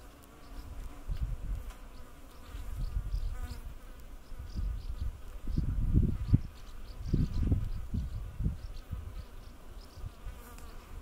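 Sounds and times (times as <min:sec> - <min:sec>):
wasp buzzing in flight: 0:00.0 - 0:11.0.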